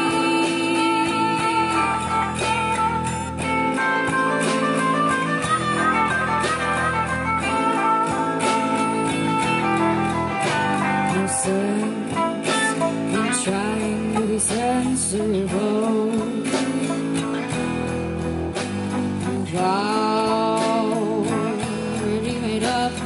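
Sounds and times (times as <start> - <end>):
guitar-led song: 0.0 - 23.0.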